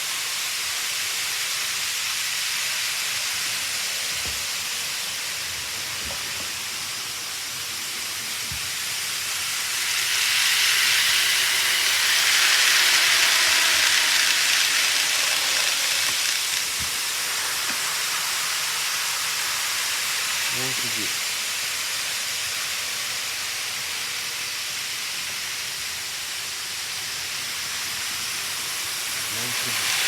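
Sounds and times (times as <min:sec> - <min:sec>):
model train rolling hiss: 0:00.0 - 0:30.0.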